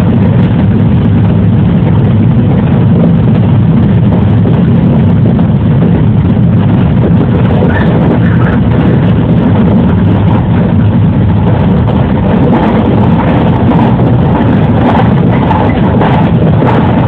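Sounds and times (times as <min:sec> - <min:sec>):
electric train running din: 0:00.0 - 0:17.0.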